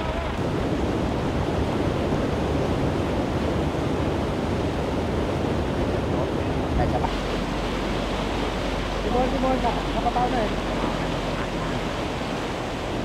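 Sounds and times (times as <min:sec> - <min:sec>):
floodwater churning and splashing: 0:00.0 - 0:13.0
wind buffeting microphone: 0:00.0 - 0:13.0.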